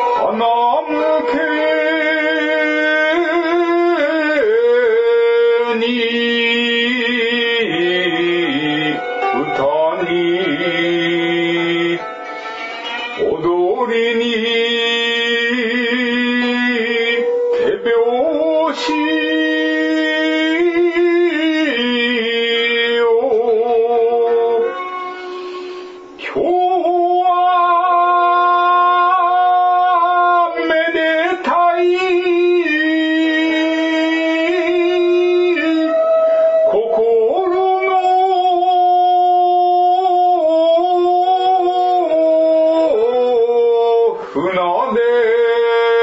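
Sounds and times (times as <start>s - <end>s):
man chanting poetry: 0.0s - 12.1s, 13.2s - 24.8s, 26.2s - 46.0s.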